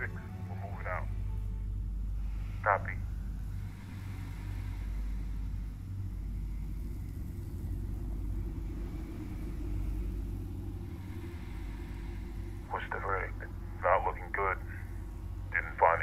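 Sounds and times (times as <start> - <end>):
deep steady rumble: 0.0 - 16.0
faint hiss: 0.0 - 16.0.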